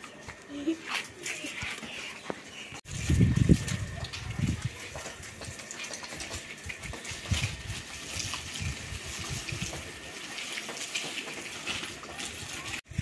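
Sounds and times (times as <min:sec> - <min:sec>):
hose spraying water: 0:00.0 - 0:13.0.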